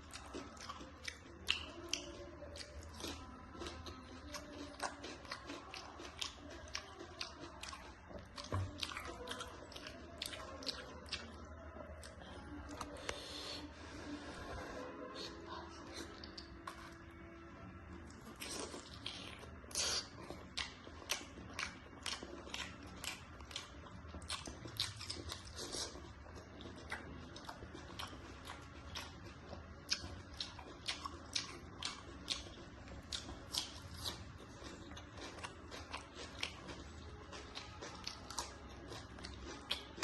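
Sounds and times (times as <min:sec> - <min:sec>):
person chewing: 0:00.0 - 0:17.2, 0:18.0 - 0:40.0.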